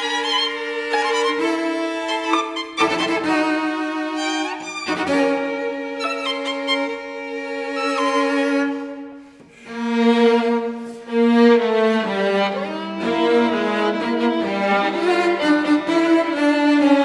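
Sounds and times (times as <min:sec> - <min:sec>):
string quartet playing: 0:00.0 - 0:17.0.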